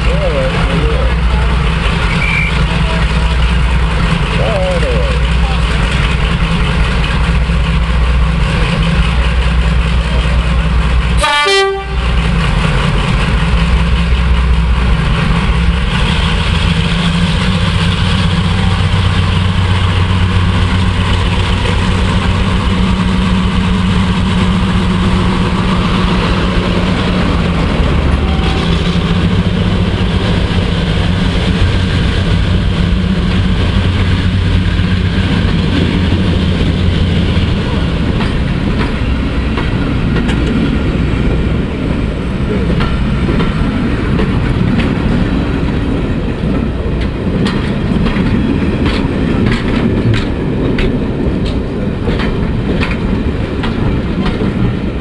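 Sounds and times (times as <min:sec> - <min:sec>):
diesel locomotive engines: 0:00.0 - 0:55.0.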